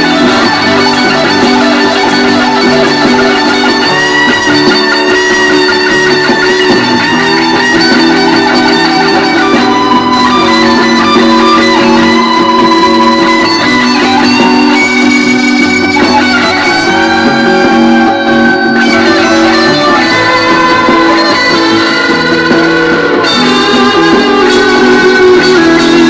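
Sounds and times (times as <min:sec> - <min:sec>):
electric guitar long held notes: 0:00.0 - 0:26.0.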